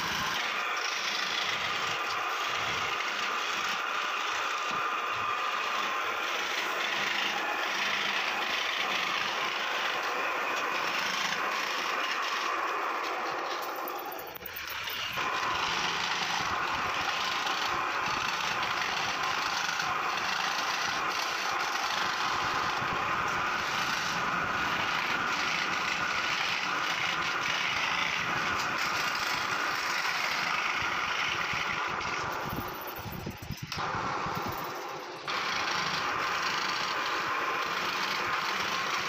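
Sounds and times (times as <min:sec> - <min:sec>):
scroll saw cutting wood: 0:00.0 - 0:39.0.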